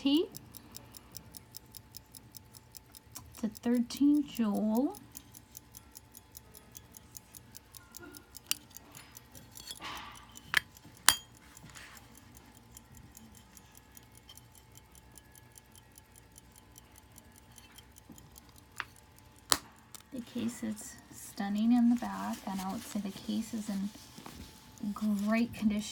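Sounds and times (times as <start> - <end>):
pocket watch ticking: 0.0 - 25.9.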